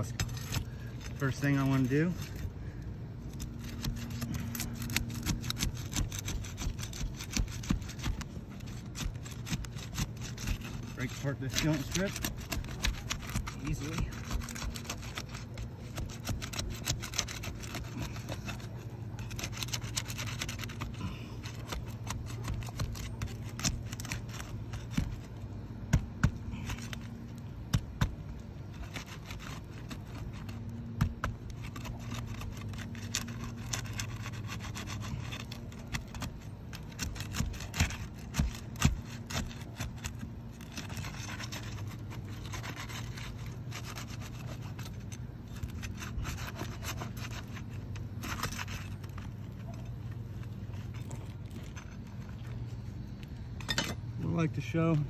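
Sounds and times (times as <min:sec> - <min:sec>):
hand tool scraping shingles: 0:00.0 - 0:55.0.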